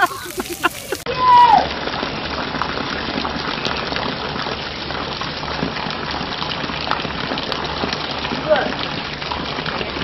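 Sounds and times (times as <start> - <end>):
water splattering into puddle: 0.0 - 10.0.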